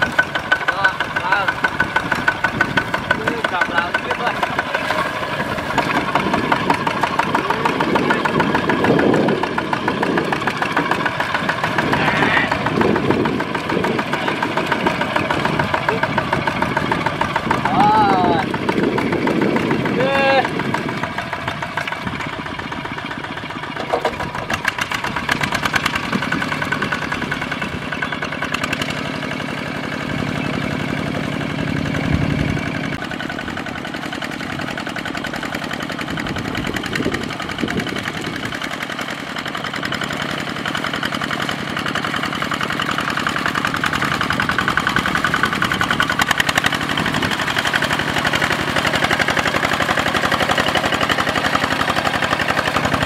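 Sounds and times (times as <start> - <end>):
diesel engine chugging: 0.0 - 53.0.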